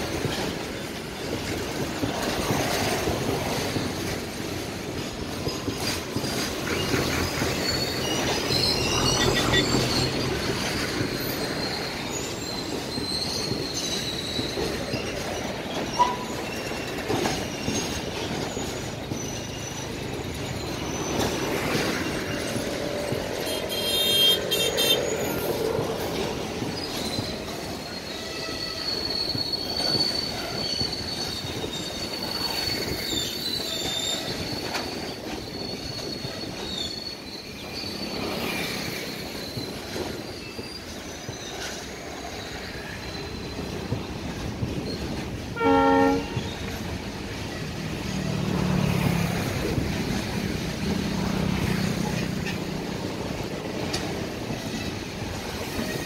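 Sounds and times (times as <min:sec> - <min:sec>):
freight wagons rolling past: 0:00.0 - 0:56.0
wheels squealing: 0:00.0 - 0:56.0.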